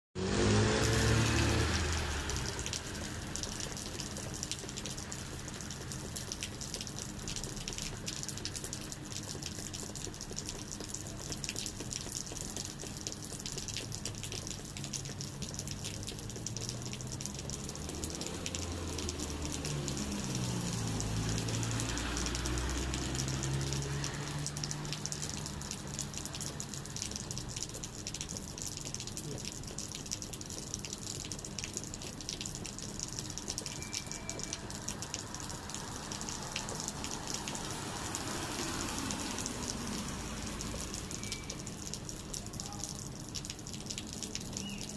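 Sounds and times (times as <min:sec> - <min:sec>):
steady rain falling: 0:00.2 - 0:44.9.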